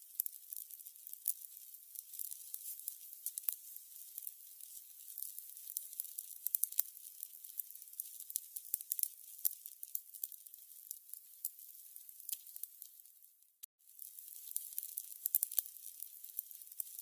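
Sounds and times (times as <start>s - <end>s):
candles hissing and crackling: 0.0s - 17.0s.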